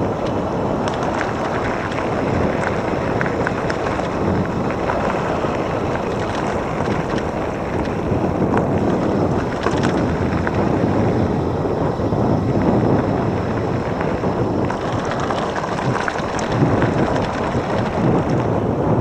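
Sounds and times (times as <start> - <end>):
small clicks and ticks: 0.0 - 11.2, 12.5 - 18.6
wind buffeting microphone: 0.0 - 19.0.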